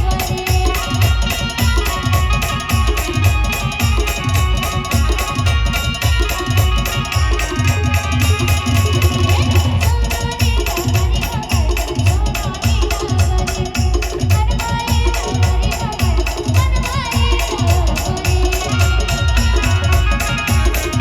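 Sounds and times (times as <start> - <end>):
heavy bass drum beat: 0.0 - 21.0.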